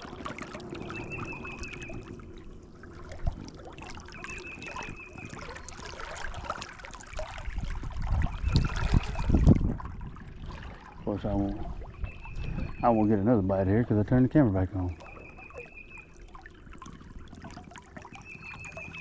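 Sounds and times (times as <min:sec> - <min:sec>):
creek water trickling: 0:00.0 - 0:19.0.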